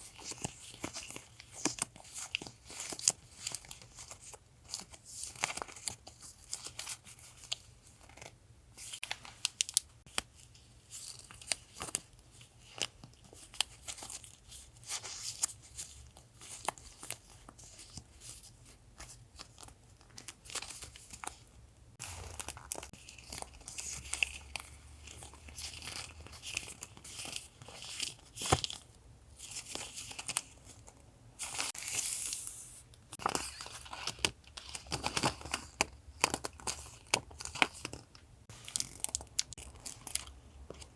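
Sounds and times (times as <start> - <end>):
packaging rustling and crinkling: 0.0 - 40.9.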